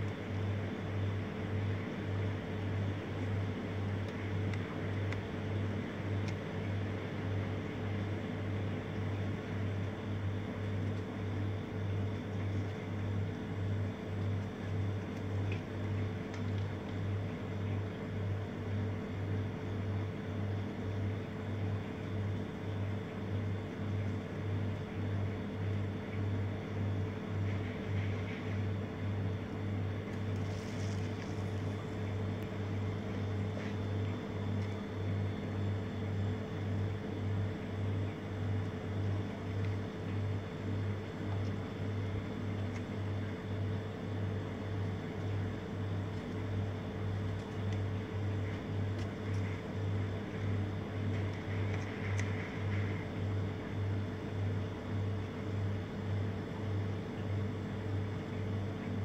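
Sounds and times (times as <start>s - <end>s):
low throbbing machine hum: 10.4s - 59.0s.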